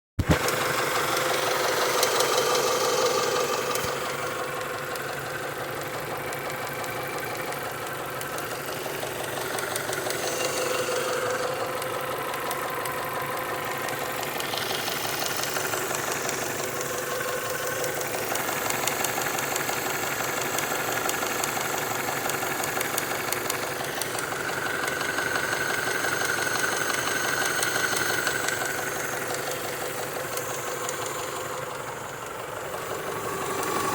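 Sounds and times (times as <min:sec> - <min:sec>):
car engine running: 0:00.2 - 0:33.9
fast engine ticking: 0:00.2 - 0:33.9.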